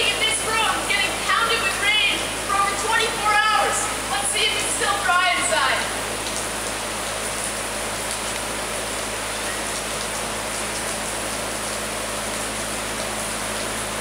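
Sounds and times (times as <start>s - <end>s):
rain on wooden floor: 0.0s - 14.0s.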